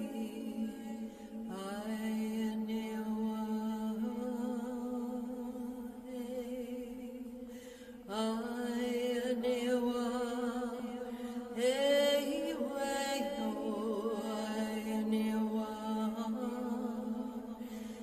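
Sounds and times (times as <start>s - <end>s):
wordless vocal chanting: 0.0s - 18.0s.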